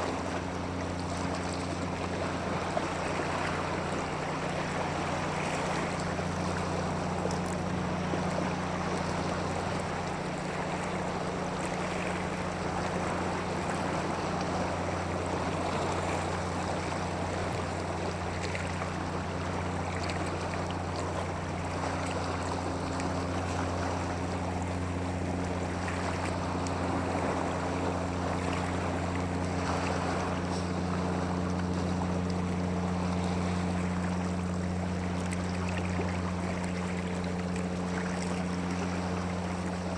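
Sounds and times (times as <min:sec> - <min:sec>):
low even hum: 0:00.0 - 0:39.9
rushing water: 0:00.0 - 0:39.9.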